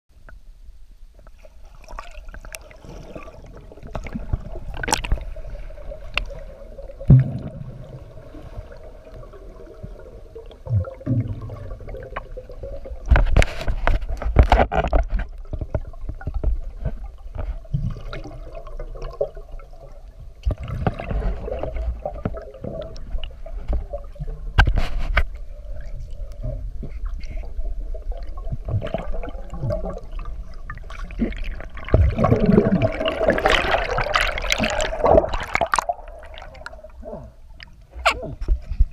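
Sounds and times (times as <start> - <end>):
underwater gurgling and rumbling: 0.1 - 38.9
underwater water rushes: 1.2 - 38.9.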